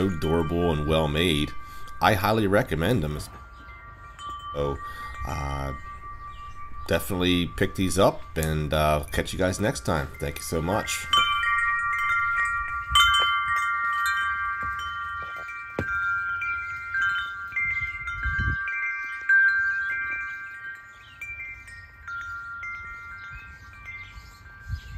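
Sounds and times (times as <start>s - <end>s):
metal wind chimes ringing: 0.0s - 24.9s.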